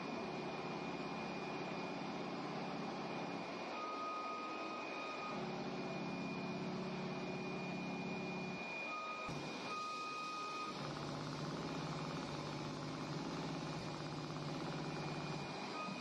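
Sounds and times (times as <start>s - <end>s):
lower machine whine: 0.0s - 16.0s
steady high machine whine: 0.0s - 16.0s.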